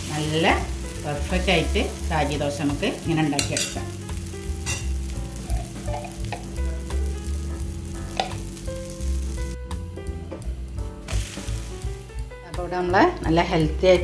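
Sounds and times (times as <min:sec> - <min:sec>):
batter sizzling on griddle: 0:00.0 - 0:13.8.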